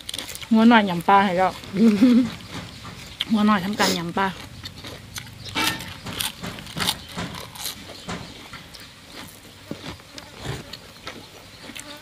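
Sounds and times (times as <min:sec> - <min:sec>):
chewing and mouth clicks: 0:00.0 - 0:12.0.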